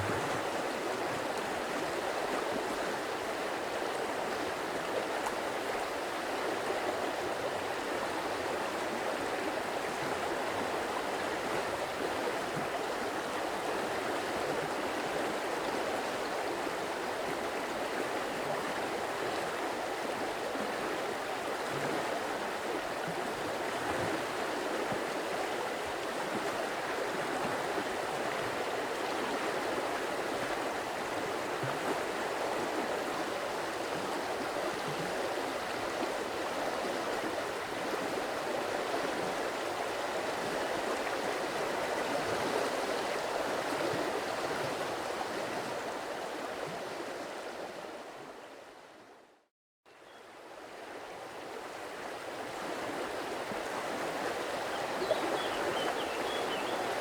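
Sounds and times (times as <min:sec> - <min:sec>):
stream water running: 0:00.0 - 0:48.5, 0:49.9 - 0:57.0.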